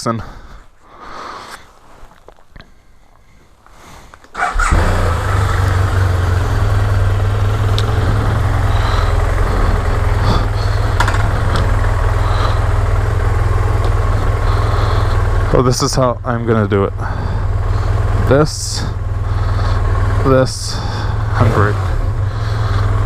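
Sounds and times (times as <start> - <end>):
motorcycle engine starting and idling: 4.0 - 23.0.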